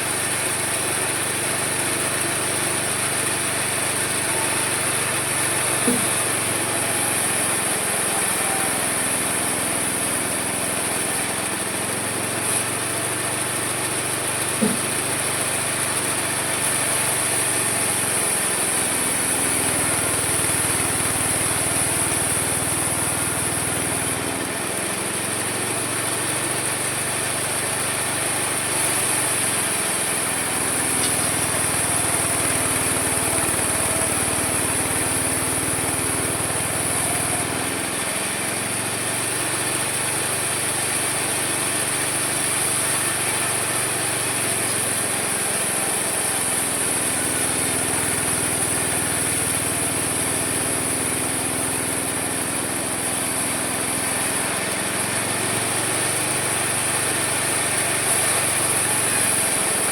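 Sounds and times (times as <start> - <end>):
sawmill motor running: 0.0 - 59.9.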